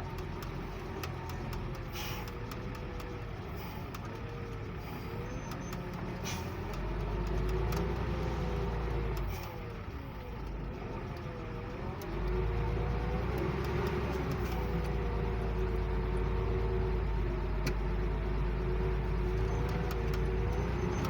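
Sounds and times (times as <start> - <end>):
truck engine rumble: 0.0 - 21.0.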